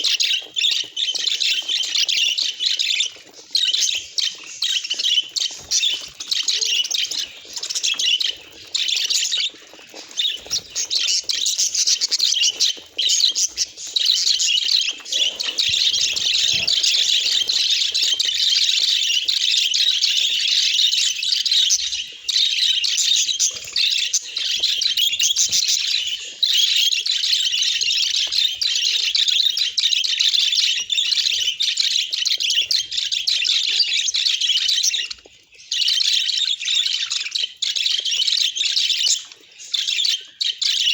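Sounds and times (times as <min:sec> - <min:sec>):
budgerigars chattering: 0:00.0 - 0:35.2.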